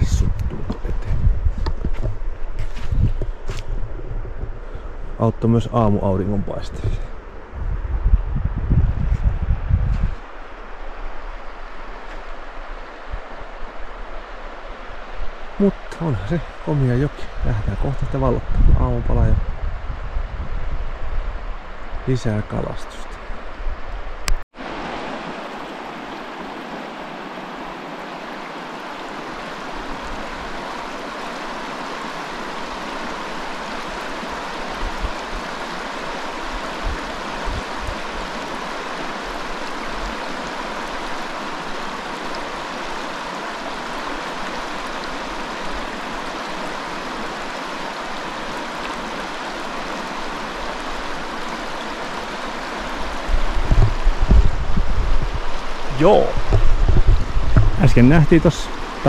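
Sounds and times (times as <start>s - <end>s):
river flowing: 2.0s - 7.6s, 10.2s - 18.5s, 19.4s - 59.0s.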